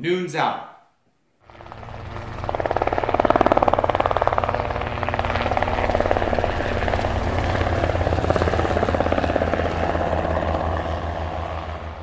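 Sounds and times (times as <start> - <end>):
helicopter rotor blades chopping: 1.4 - 12.0
low engine drone: 1.4 - 12.0.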